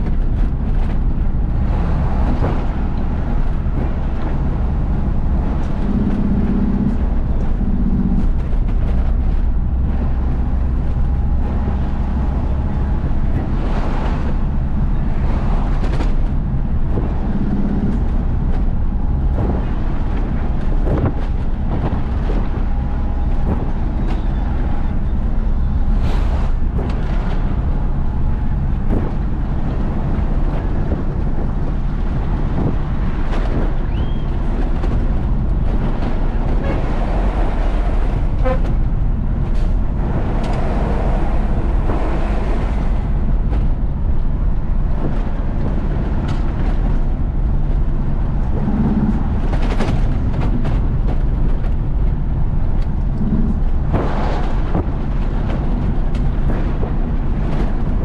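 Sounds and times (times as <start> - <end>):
diesel truck engine driving: 0.0 - 58.0
knocks and rattles: 0.0 - 58.0.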